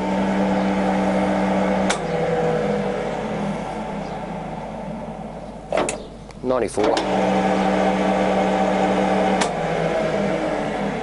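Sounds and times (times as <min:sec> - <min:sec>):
lathe motor and gear hum: 0:00.0 - 0:11.0.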